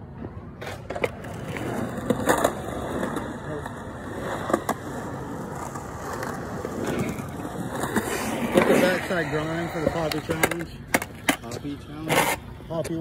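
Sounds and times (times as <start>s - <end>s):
skateboard wheels rolling on concrete: 0.0s - 13.0s
skateboard clacks: 0.6s - 13.0s.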